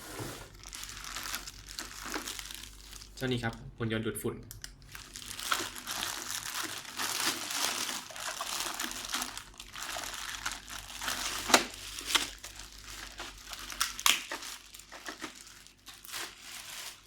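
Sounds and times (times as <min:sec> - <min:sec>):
plastic packaging crinkling: 0:00.5 - 0:03.6, 0:04.7 - 0:17.0.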